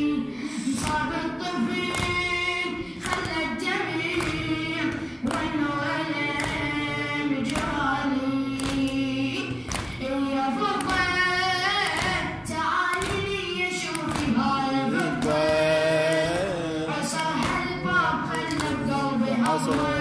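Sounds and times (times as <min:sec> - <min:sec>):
person chanting into microphone: 0:00.8 - 0:20.0.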